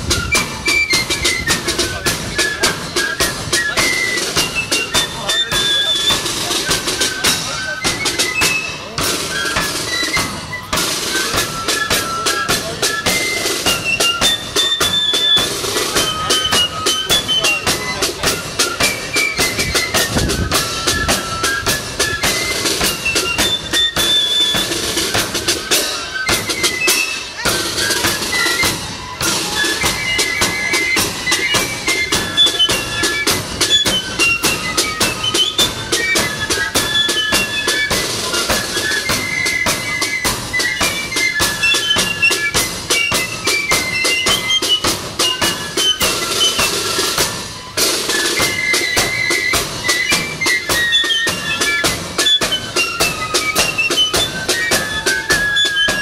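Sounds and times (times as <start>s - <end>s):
flutes playing melody: 0.0s - 56.0s
snare drums: 0.0s - 56.0s.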